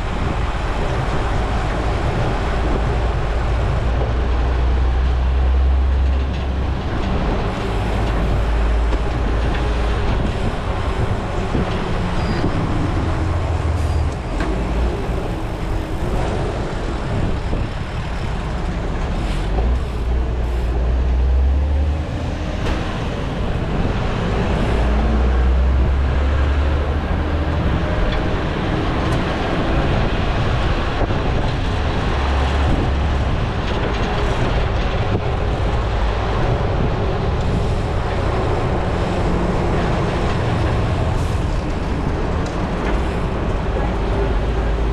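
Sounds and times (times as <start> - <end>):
road and traffic noise: 0.0 - 44.9
wind buffeting microphone: 0.0 - 44.9.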